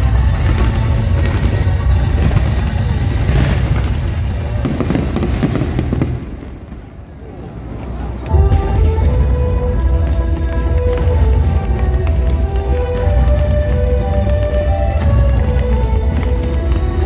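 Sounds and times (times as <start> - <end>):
loud music: 0.0 - 6.3, 8.3 - 17.0
fireworks bangs and crackles: 0.0 - 17.0.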